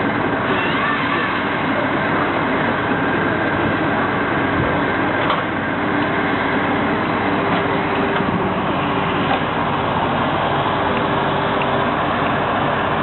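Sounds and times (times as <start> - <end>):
loud steady machine noise: 0.0 - 13.0.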